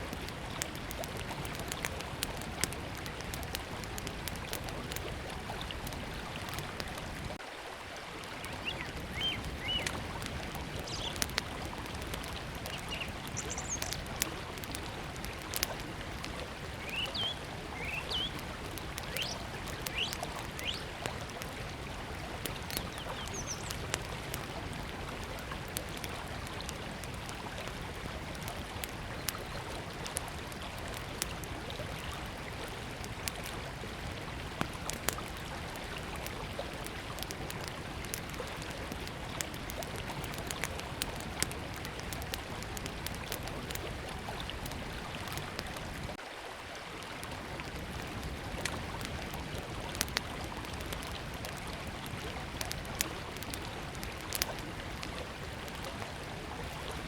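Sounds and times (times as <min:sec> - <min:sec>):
campfire crackling and popping: 0:00.0 - 0:46.2, 0:47.0 - 0:57.0
river flowing: 0:00.0 - 0:57.0.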